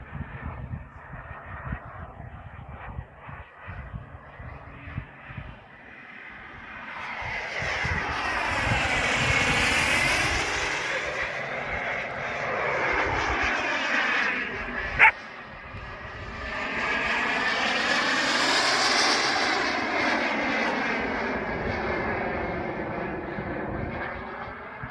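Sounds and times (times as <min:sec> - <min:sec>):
model jet turbine whine: 0:00.0 - 0:24.9.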